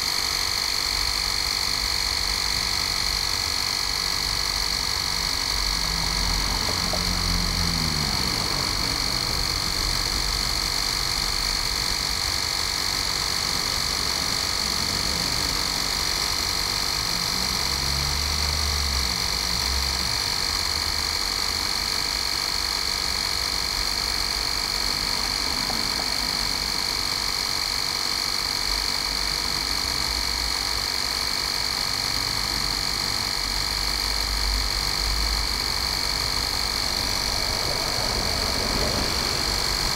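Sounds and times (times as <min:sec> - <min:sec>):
mini compressor high whine: 0:00.0 - 0:39.9.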